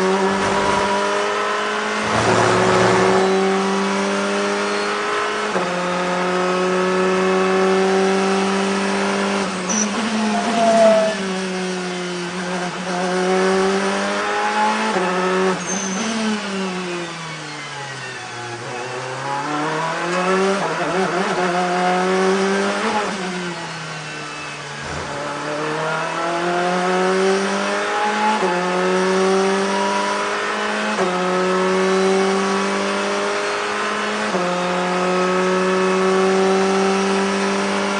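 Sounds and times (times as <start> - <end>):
race car engine at full throttle: 0.0 - 37.9.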